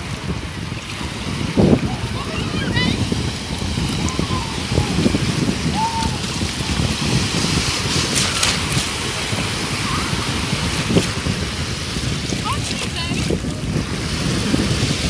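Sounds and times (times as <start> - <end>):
sea waves sloshing: 0.0 - 15.0
wind buffeting microphone: 0.0 - 15.0.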